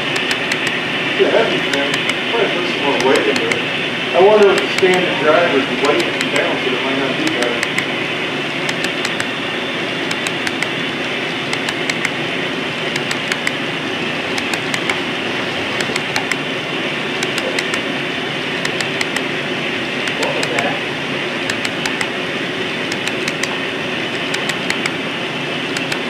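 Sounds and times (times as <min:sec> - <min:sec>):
model train cars rumbling: 0:00.0 - 0:26.0.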